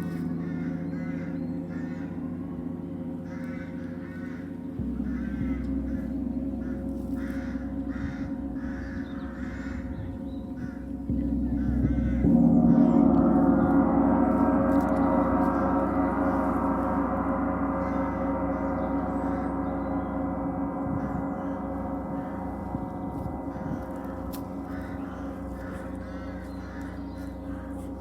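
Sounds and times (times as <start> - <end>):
large gong ringing: 0.0 - 28.0.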